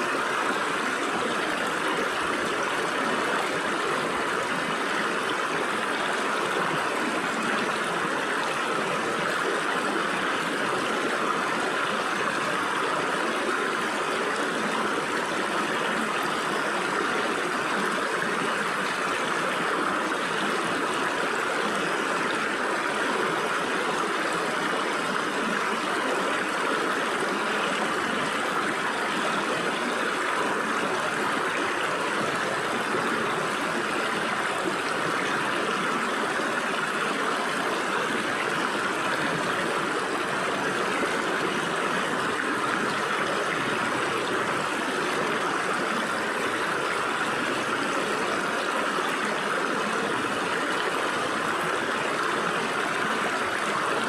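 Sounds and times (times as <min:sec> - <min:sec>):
stream gurgling over rocks: 0:00.0 - 0:54.0.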